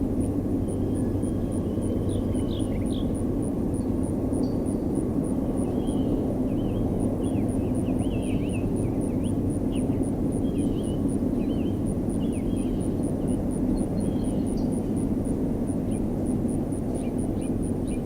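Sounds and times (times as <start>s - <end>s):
faint high-pitched ticking: 0.2s - 18.0s.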